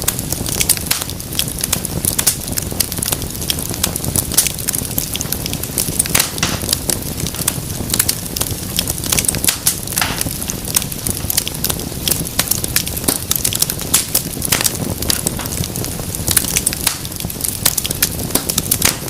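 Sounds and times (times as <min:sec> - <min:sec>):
fire crackling and popping: 0:00.0 - 0:19.0
fire hiss: 0:00.0 - 0:19.0
wood fire rumbling: 0:00.0 - 0:19.0.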